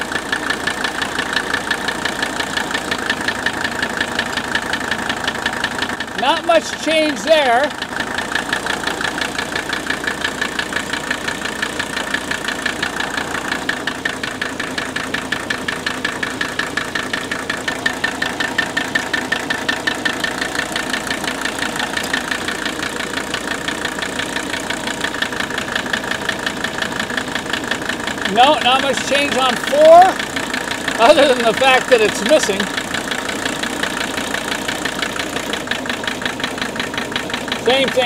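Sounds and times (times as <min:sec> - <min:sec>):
diesel engine idling with knock: 0:00.0 - 0:38.0.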